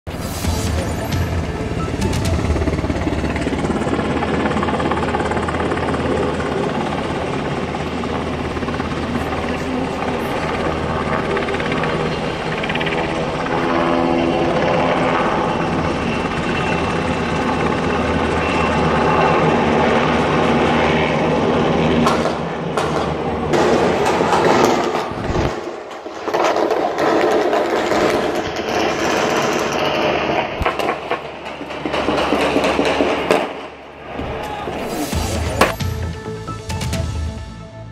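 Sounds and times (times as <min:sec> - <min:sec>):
helicopter rotor and engine: 0:00.1 - 0:37.6.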